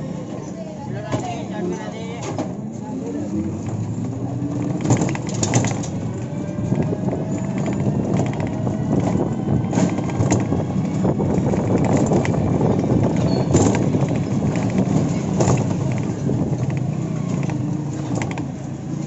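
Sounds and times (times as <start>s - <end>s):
street noise: 0.0s - 19.0s
rickshaw knocks and rattles: 3.6s - 19.0s.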